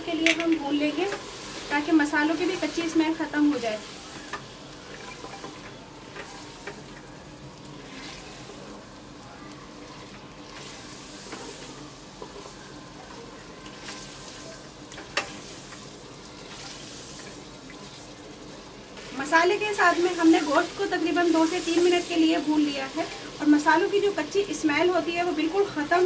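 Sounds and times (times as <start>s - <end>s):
meat sizzling in hot oil: 0.0s - 26.0s.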